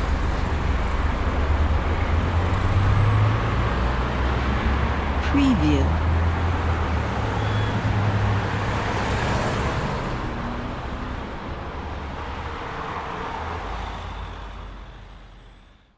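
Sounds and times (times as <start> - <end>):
vehicles passing: 0.0 - 13.8.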